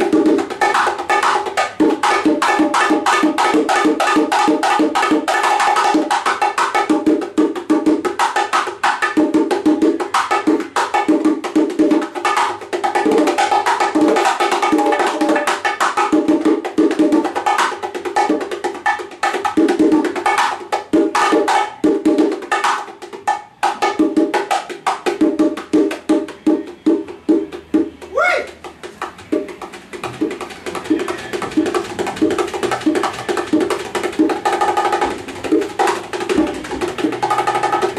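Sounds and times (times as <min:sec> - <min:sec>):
bongos played fast by hand: 0:00.0 - 0:37.9.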